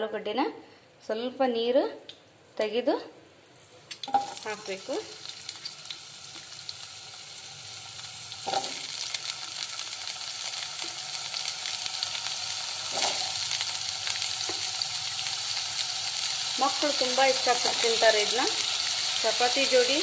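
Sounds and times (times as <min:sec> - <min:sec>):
potatoes sizzling in hot oil: 0:03.8 - 0:20.0.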